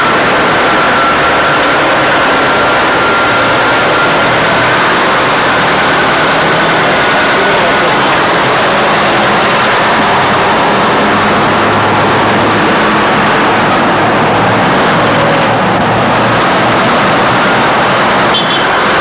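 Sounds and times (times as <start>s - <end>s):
car engine idling: 0.0s - 19.0s
loud steady rushing noise: 0.0s - 19.0s.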